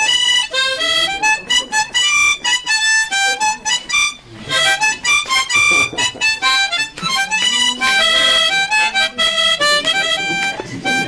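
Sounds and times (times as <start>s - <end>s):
harmonica melody: 0.0s - 11.0s.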